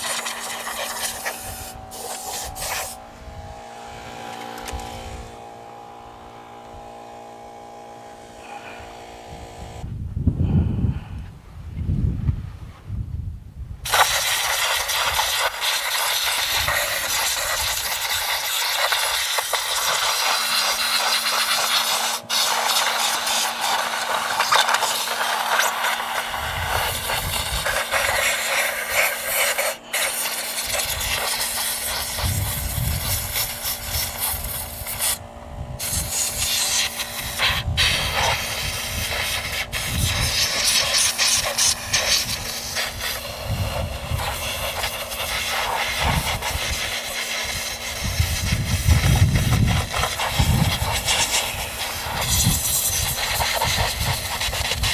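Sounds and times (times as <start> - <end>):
compressed air hissing: 0.0 - 6.0, 8.0 - 9.8, 13.8 - 54.9
steady low hum: 0.0 - 54.9.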